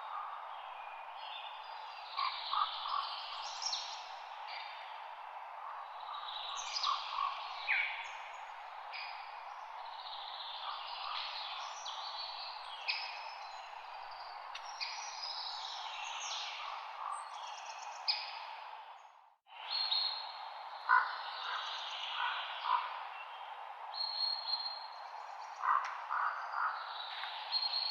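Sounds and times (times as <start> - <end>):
songbirds chirping: 0.0 - 27.9.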